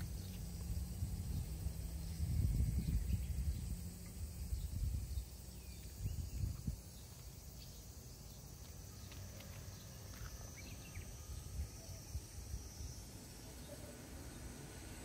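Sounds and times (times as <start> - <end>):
faint chirps: 0.0 - 15.0
low rumble of wind on microphone: 0.0 - 15.0.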